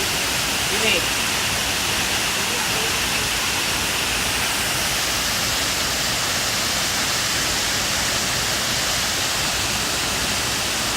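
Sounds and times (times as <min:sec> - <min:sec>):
waterfall rushing: 0:00.0 - 0:10.9.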